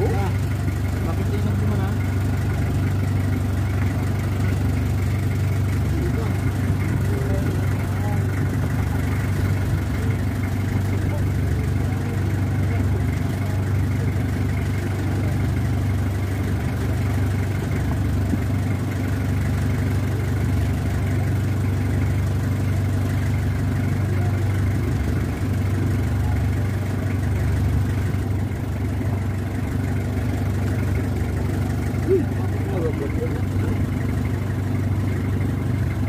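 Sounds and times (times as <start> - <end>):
boat engine idling: 0.0 - 36.0.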